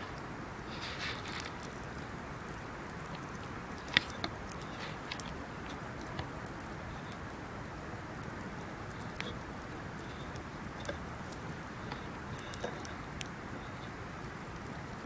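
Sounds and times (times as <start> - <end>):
low hiss: 0.0 - 15.0
wood fire crackling: 0.0 - 15.0.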